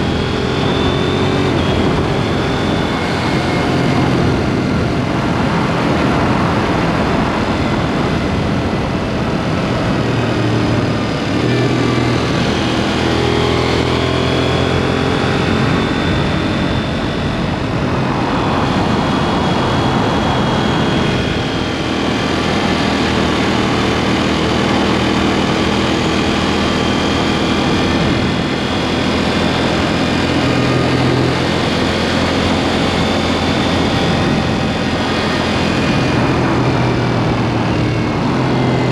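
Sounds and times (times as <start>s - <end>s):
motorcycle engine revving: 0.0s - 38.9s
rushing noise: 0.0s - 38.9s.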